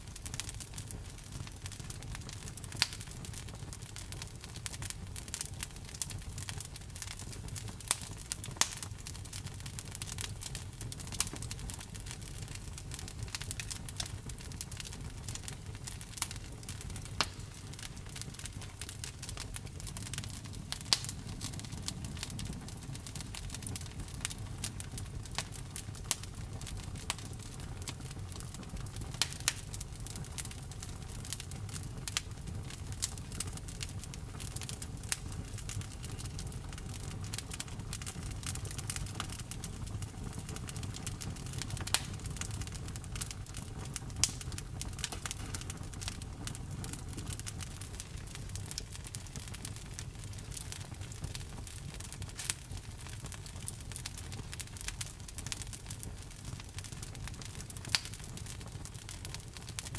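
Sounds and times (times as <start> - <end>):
crackles and pops of burning wood: 0.0 - 59.9
low rumble of flames: 0.0 - 59.9.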